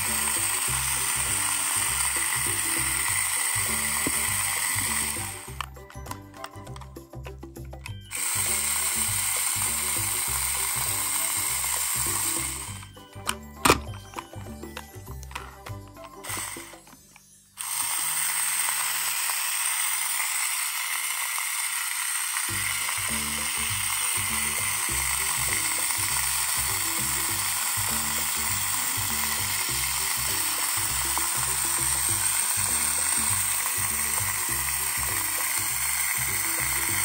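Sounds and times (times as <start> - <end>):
toy vacuum motor whirring: 0.0 - 37.0.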